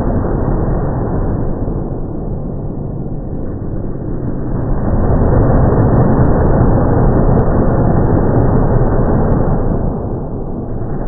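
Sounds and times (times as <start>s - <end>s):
slowed deep engine rumble: 0.0s - 11.0s.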